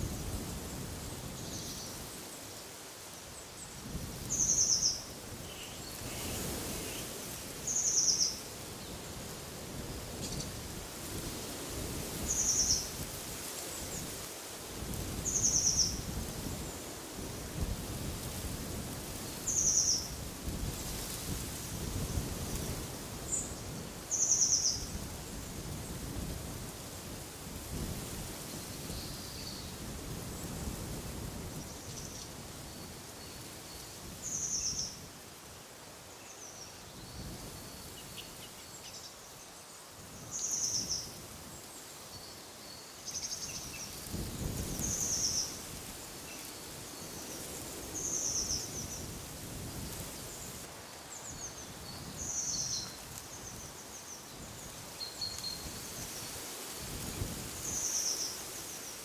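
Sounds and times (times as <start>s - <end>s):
wind rumbling in gusts: 0.0s - 2.4s, 3.6s - 35.6s, 43.2s - 59.0s.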